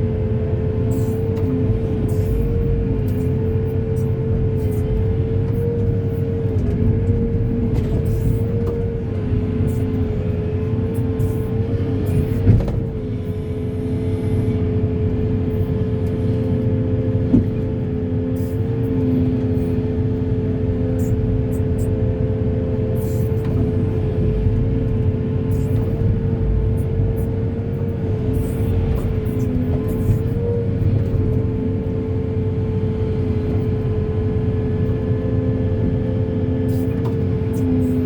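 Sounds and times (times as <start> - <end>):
constant high whine: 0.0 - 38.0
excavator engine rumble: 0.0 - 38.0.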